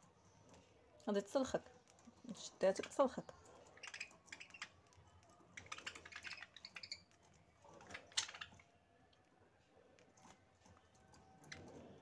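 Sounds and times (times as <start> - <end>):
birds pecking and cracking seed: 0.0 - 12.0.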